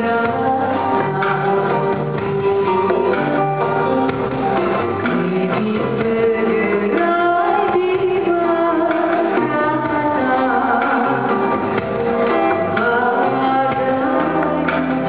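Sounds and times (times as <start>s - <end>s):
live band playing: 0.0s - 15.0s
person singing: 0.0s - 15.0s.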